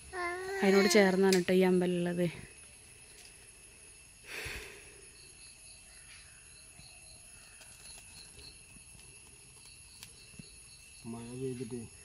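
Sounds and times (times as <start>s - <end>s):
faint high insect chirps: 0.0s - 12.0s.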